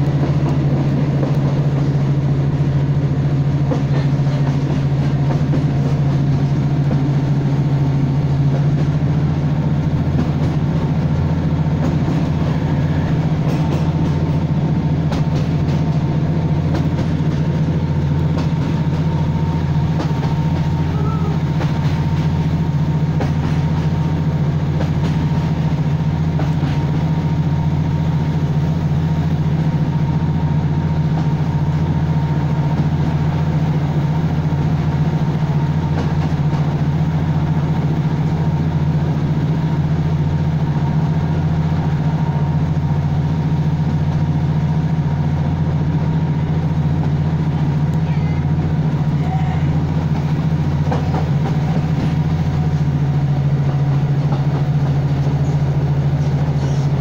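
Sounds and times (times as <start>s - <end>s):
train engine and wheels droning: 0.0s - 57.0s.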